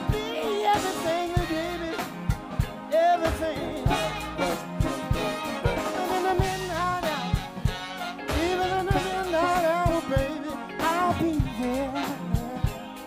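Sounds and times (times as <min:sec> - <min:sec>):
drum beat thumping: 0:00.0 - 0:13.0
live band music: 0:00.0 - 0:13.0.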